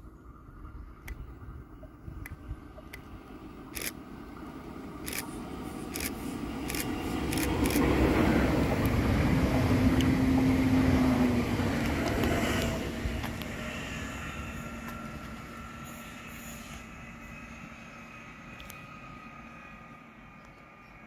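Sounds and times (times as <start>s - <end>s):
train rumble approaching: 0.0s - 21.0s.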